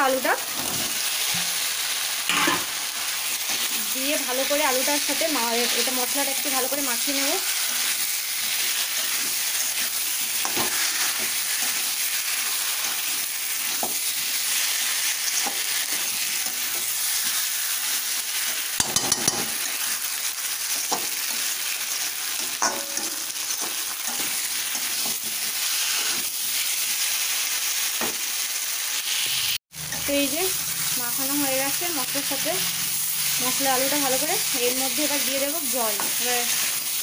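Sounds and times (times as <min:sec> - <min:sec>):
potatoes sizzling in oil: 0:00.0 - 0:37.0.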